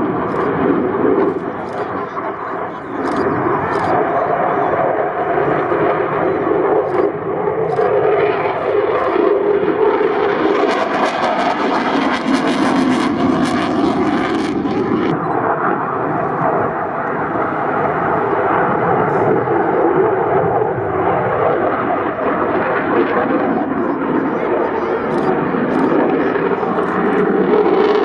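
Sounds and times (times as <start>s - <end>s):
fighter jet roar: 0.0s - 28.0s.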